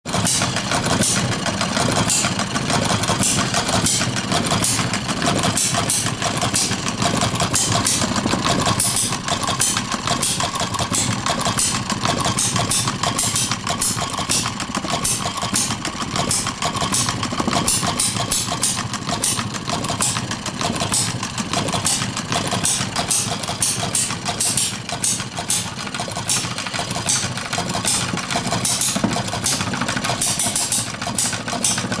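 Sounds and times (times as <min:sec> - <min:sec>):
unmuffled engine firing: 0:00.1 - 0:32.0.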